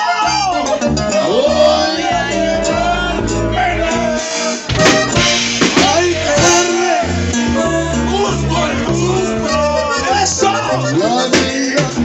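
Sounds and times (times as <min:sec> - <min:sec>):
men singing into microphone: 0:00.0 - 0:04.7, 0:05.6 - 0:12.0
live band music: 0:00.0 - 0:12.0.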